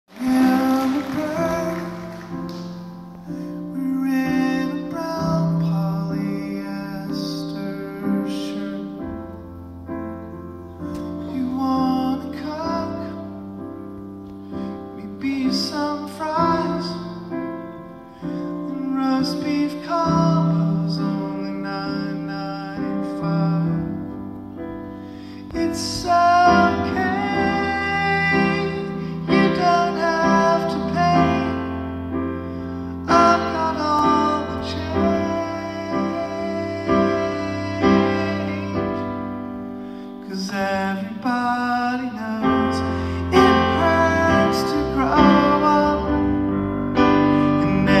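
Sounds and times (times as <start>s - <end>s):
grand piano chords: 0.0s - 48.0s
man singing: 0.1s - 3.0s, 3.6s - 9.4s, 10.9s - 13.6s, 14.9s - 17.7s, 18.5s - 24.3s, 25.4s - 39.6s, 40.2s - 48.0s.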